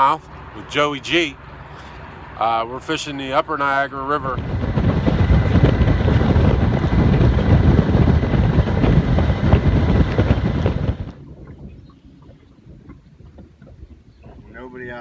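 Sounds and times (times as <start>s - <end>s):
boat under way: 0.0s - 15.0s
wind buffeting microphone: 0.0s - 15.0s.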